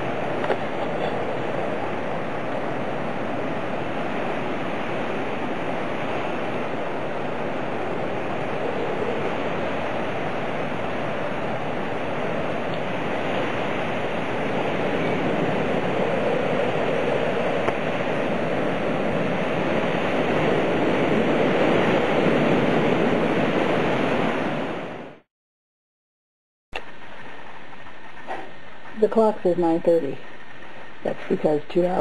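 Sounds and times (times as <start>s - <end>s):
rain: 0.0s - 22.8s, 26.8s - 32.0s
storm wind through trees: 0.0s - 25.2s, 26.8s - 32.0s.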